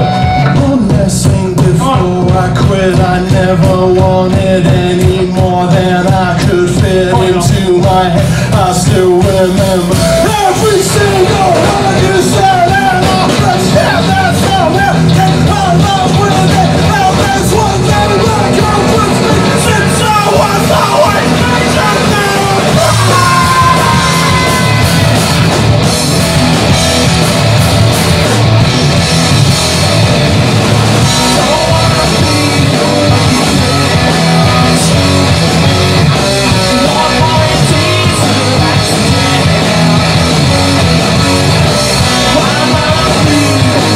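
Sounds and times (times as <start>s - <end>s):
vocalist singing and shouting: 0.0s - 26.4s, 30.8s - 43.9s
live rock band playing: 0.0s - 43.9s.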